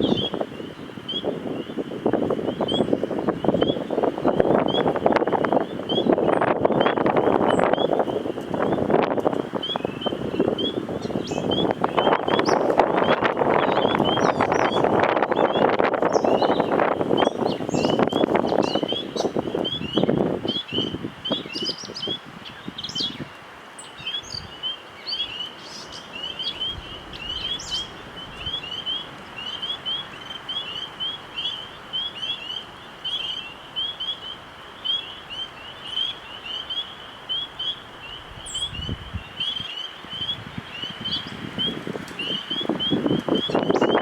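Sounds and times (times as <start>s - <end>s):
birds chirping: 0.0s - 44.0s
wind gusts: 0.0s - 44.0s
higher bird calls: 2.5s - 44.0s.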